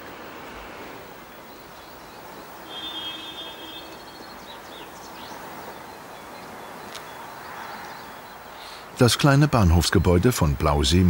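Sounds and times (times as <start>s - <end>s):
birds singing: 1.2s - 11.0s.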